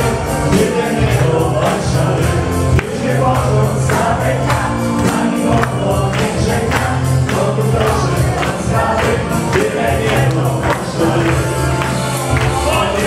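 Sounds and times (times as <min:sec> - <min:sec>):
upbeat dance music with singing: 0:00.0 - 0:13.0.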